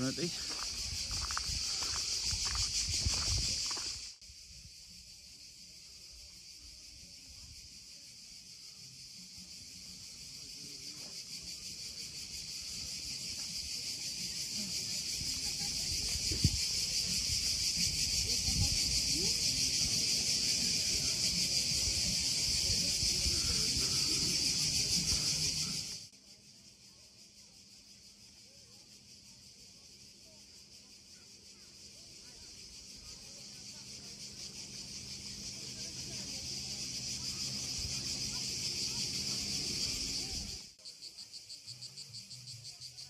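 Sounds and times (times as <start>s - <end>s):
cicadas buzzing: 0.0s - 43.0s.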